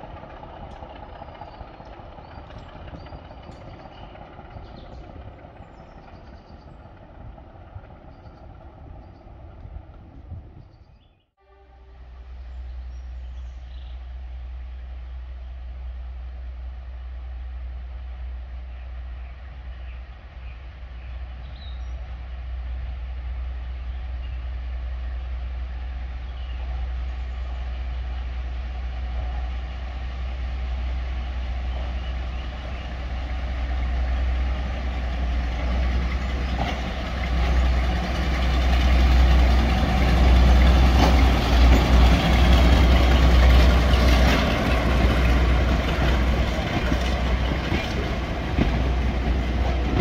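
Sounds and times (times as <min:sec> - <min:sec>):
diesel locomotive engines rumbling: 0:00.0 - 0:50.0.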